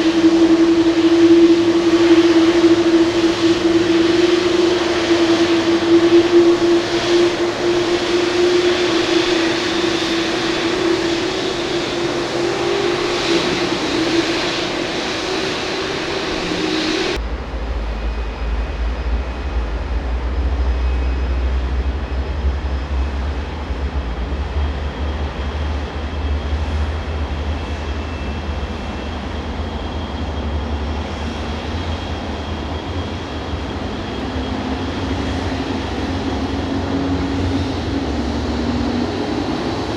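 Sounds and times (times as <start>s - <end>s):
jet engine hum with hiss: 0.0s - 39.9s
jet engine low rumble: 0.0s - 39.9s.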